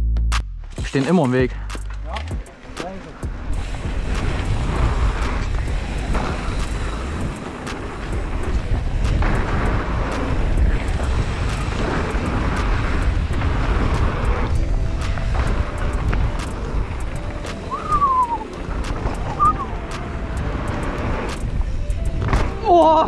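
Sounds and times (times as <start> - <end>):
wind rumble on microphone: 3.1 - 23.0.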